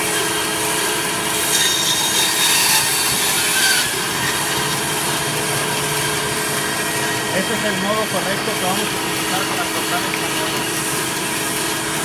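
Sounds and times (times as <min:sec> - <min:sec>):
band saw cutting through bone: 0:00.0 - 0:12.0.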